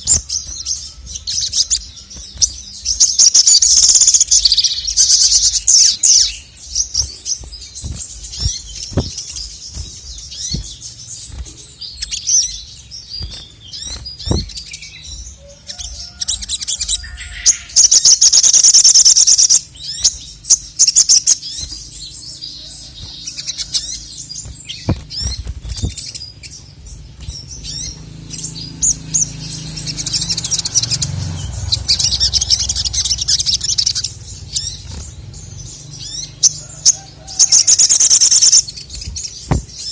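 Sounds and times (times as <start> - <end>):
sunbird chattering trills: 0.0 - 39.9.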